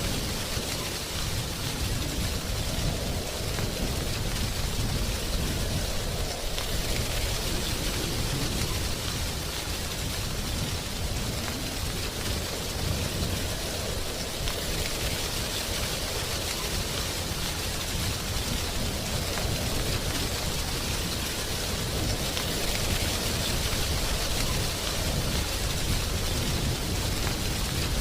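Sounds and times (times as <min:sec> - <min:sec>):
wind rustling tree leaves: 0:00.0 - 0:28.0.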